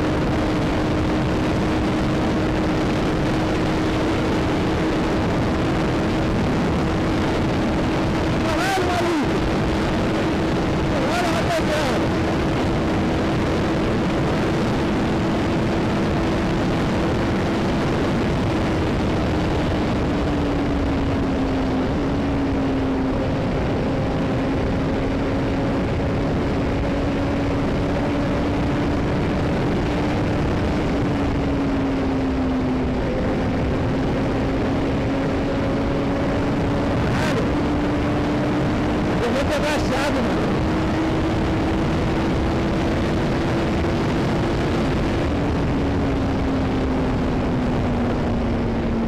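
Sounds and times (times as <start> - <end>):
motorcycle engine drone: 0.0 - 49.0
wind rush over microphone: 0.0 - 49.0.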